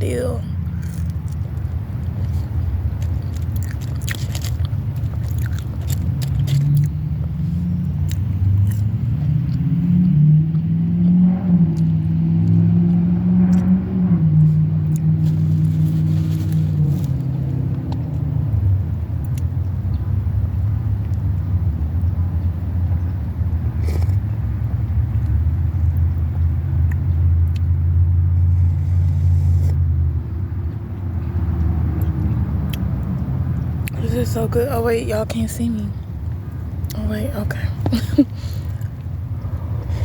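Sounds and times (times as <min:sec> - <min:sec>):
low engine rumble: 0:00.0 - 0:40.0.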